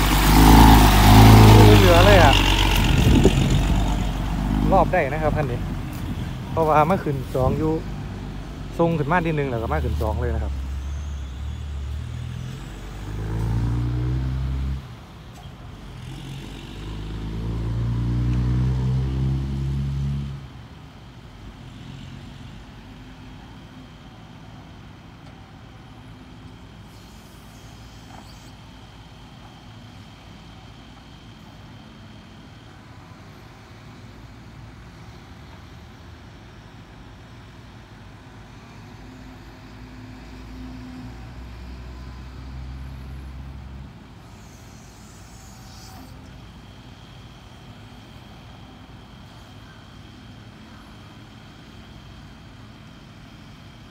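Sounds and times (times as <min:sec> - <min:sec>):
heavy diesel truck engine: 0:00.0 - 0:53.9.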